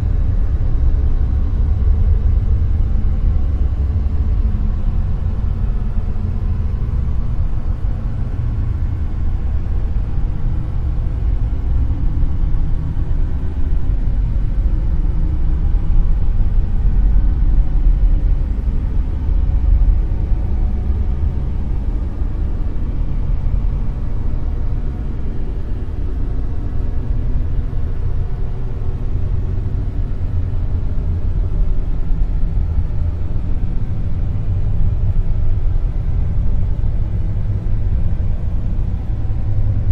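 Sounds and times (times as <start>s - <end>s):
deep rumbling noise: 0.0s - 39.9s.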